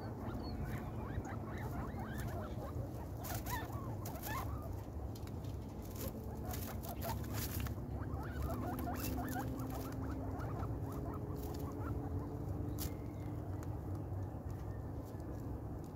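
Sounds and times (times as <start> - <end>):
guinea pigs squeaking: 0.0 - 15.9.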